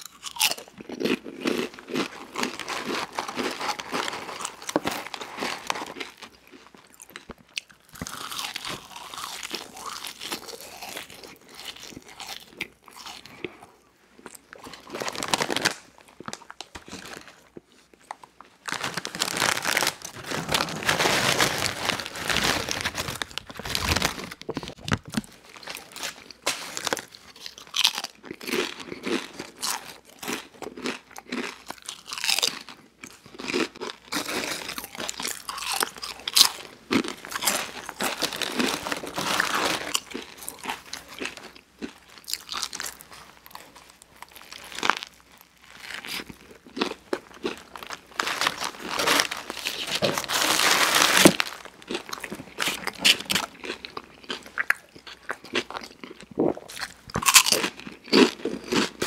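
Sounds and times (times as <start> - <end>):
chip bag crinkling: 0.0 - 13.4, 14.5 - 32.7, 33.3 - 59.0
chewing fries: 0.0 - 59.0
crunching tortilla chips: 0.0 - 59.0.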